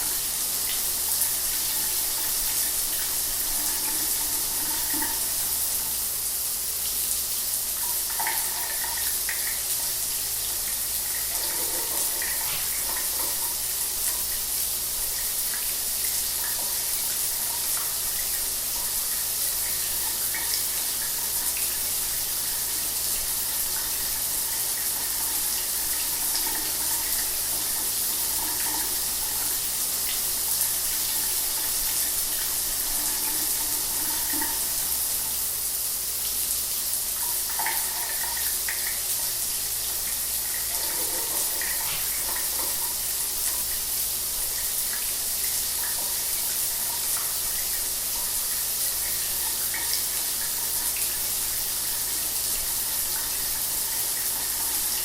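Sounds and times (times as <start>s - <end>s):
shower spray hissing: 0.0s - 55.0s.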